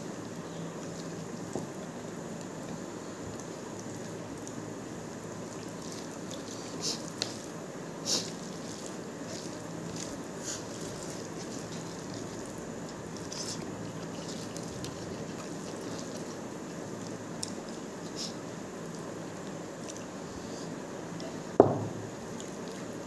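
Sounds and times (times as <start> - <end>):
background hiss: 0.0 - 23.0
fingers mixing wet food: 0.2 - 20.2.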